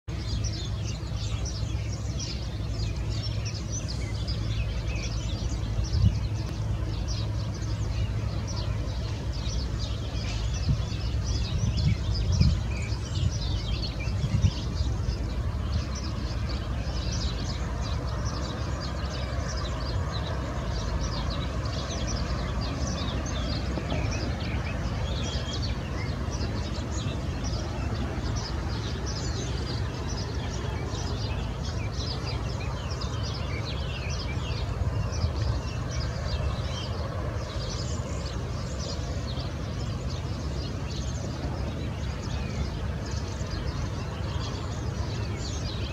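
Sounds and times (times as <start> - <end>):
birds chirping: 0.0 - 45.9
sprayer engine drone: 0.1 - 45.9.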